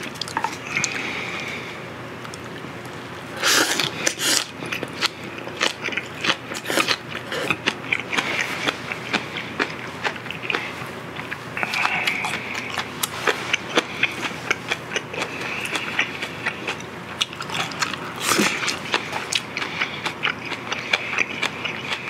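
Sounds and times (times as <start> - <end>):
person chewing with lip smacks: 2.2 - 22.0.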